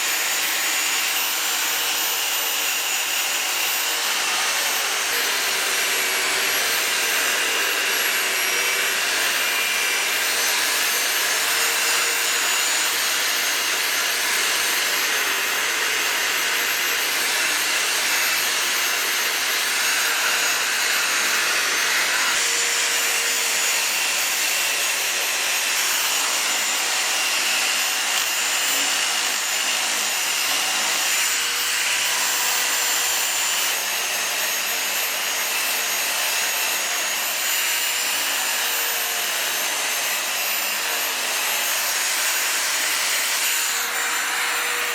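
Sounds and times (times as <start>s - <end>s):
angle grinder grinding wood: 0.0s - 44.9s.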